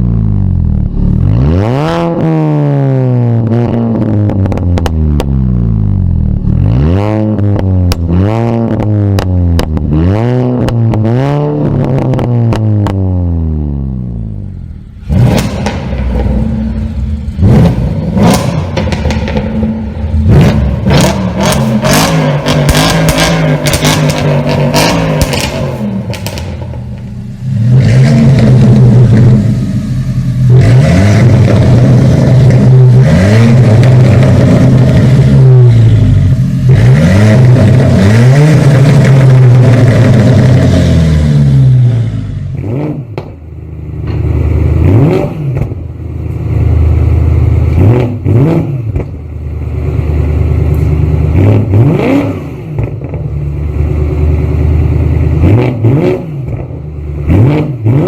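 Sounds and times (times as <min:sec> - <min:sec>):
car engine revving: 0:00.0 - 0:58.0
exhaust popping and crackling: 0:03.4 - 0:13.1, 0:15.0 - 0:58.0.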